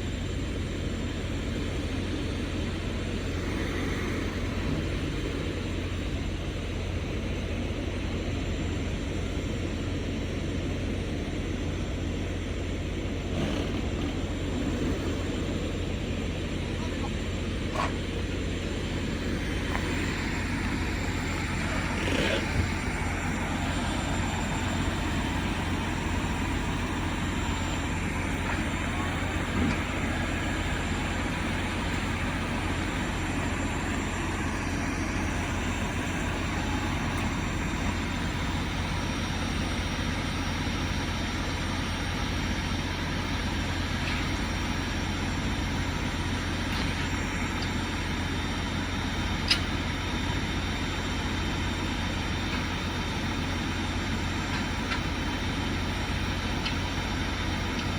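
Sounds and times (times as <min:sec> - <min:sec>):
diesel truck engine idling: 0:00.0 - 0:57.9.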